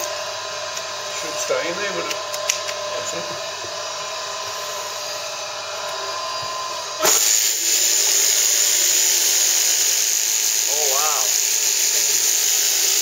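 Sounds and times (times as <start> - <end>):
electric shearing handpiece whine: 0.0 - 13.0.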